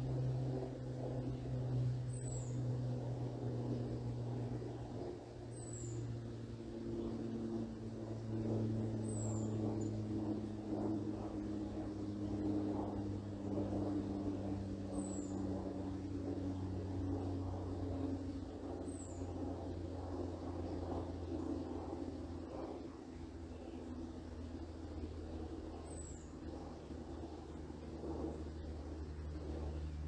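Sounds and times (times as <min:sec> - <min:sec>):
airplane droning overhead: 0:00.0 - 0:30.0.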